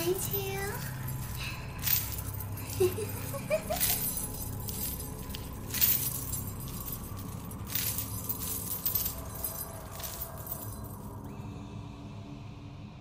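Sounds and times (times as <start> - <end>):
jangling metallic clinks: 0.0 - 11.2
steady low rumble: 0.0 - 13.0.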